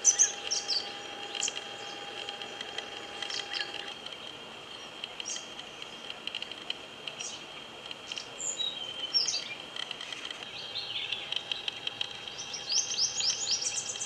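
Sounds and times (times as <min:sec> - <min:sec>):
steady high hum: 0:00.0 - 0:14.0.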